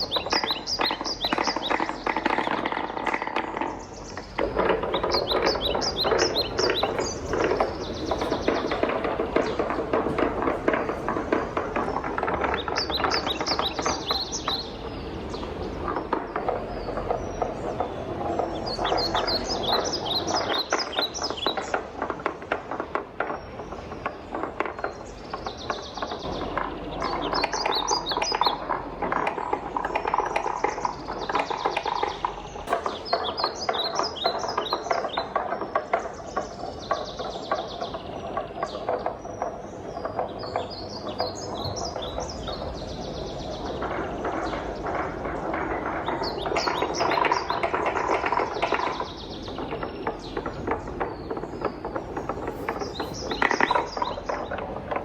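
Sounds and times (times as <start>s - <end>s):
wooden balls rattling down marble run: 0.0s - 55.0s.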